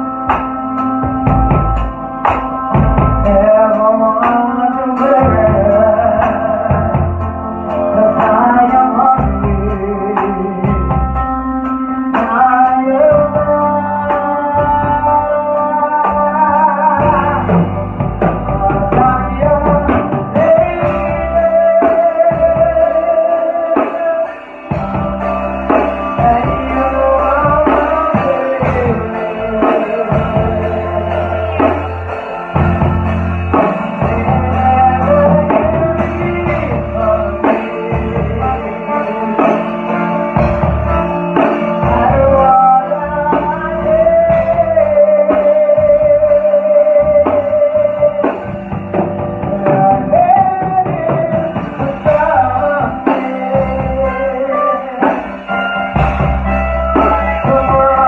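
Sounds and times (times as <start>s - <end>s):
bass guitar: 0.0s - 58.0s
drums: 0.0s - 58.0s
electric guitar: 0.0s - 58.0s
person singing: 0.0s - 58.0s.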